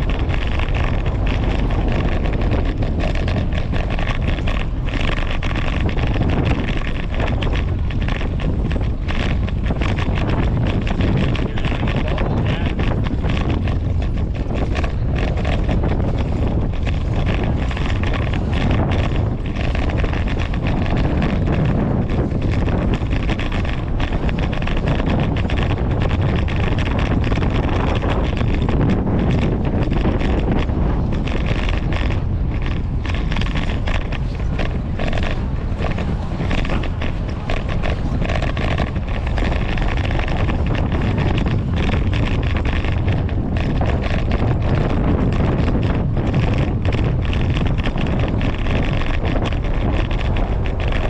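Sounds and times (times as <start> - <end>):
bicycle clicks and rattles: 0.0 - 51.0
bicycle rolling over brick pavers: 0.0 - 51.0
wind buffeting microphone: 0.0 - 51.0.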